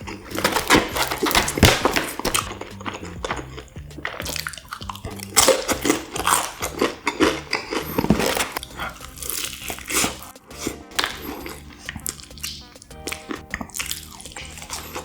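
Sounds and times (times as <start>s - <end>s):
background music with bass line: 0.0s - 15.0s
crunchy biting and chewing: 0.0s - 15.0s.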